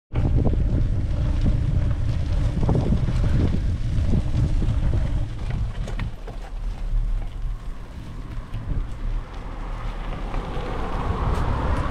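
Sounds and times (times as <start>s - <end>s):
wind buffeting microphone: 0.1s - 11.9s.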